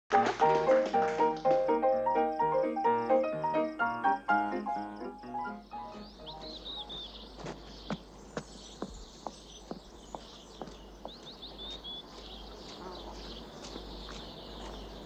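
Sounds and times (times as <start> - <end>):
small birds chirping: 2.3 - 15.0.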